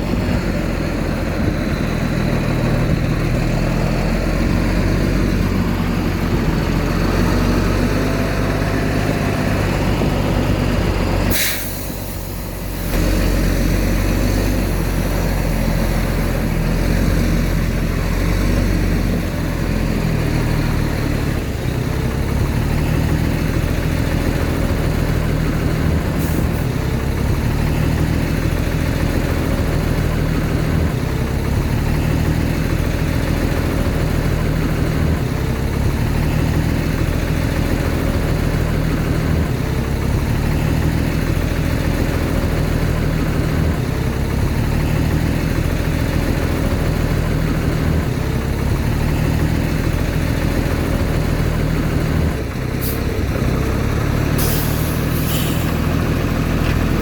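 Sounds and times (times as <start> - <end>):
diesel earthmoving machine running: 0.0 - 57.0.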